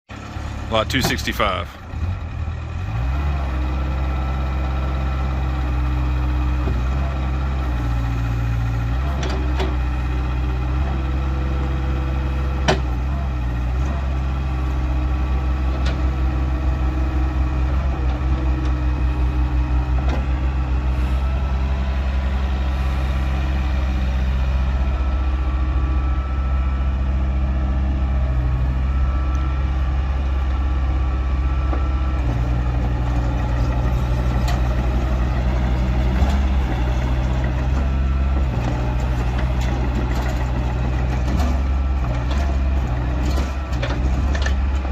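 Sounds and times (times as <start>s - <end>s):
excavator diesel engine running: 0.1s - 44.9s.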